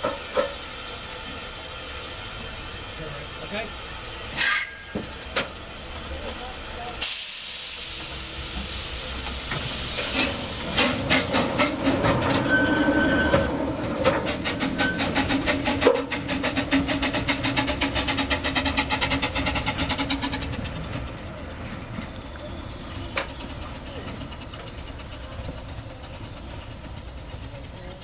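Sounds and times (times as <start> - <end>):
steam hissing: 0.0 - 28.0
steam locomotive exhaust beats: 0.0 - 28.0.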